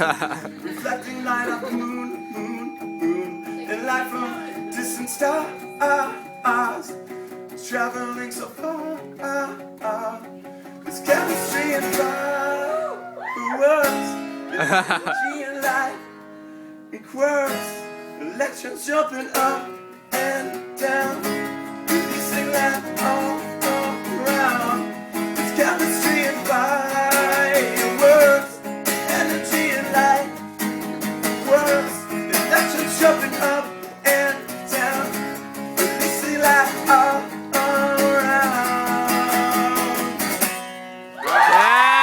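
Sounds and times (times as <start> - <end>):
acoustic guitar strumming: 0.0 - 12.9, 13.5 - 41.2
person singing: 0.0 - 16.2, 18.2 - 30.4, 31.3 - 40.5.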